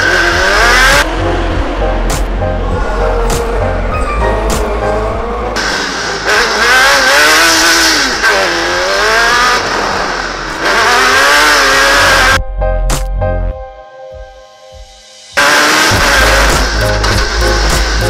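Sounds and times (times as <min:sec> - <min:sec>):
buggy engine revving: 0:00.0 - 0:12.4, 0:15.4 - 0:18.0.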